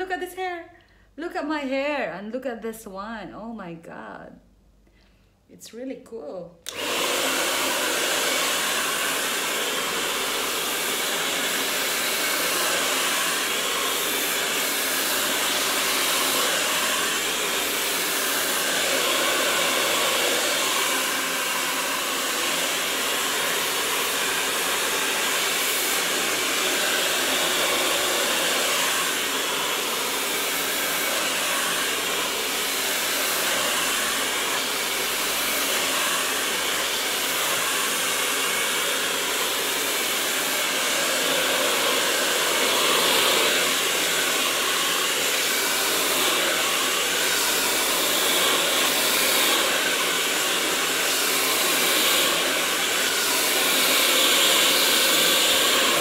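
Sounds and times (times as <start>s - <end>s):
hair dryer running: 6.6s - 56.0s.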